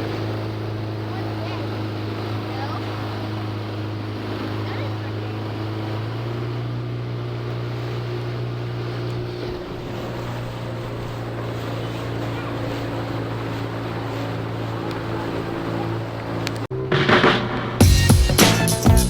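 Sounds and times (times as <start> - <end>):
water noise from hull: 0.0 - 18.8
outboard motor running: 0.0 - 19.0.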